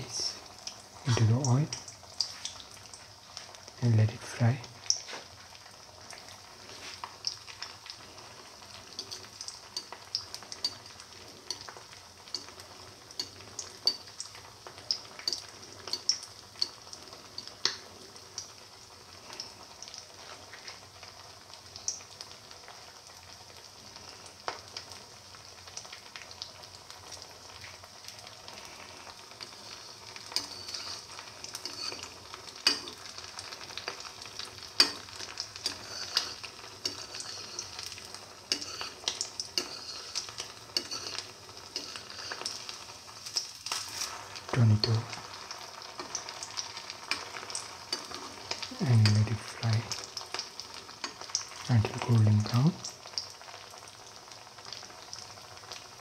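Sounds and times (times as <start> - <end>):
oil popping and crackling: 0.0 - 56.0
patty deep-frying in oil: 0.0 - 56.0.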